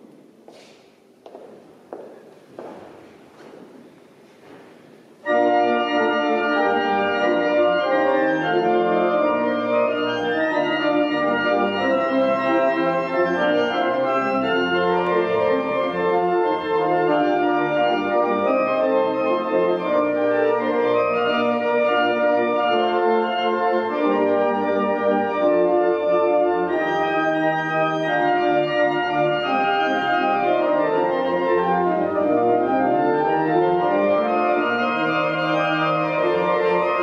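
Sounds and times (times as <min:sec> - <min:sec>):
church organ chords: 0:05.2 - 0:37.0.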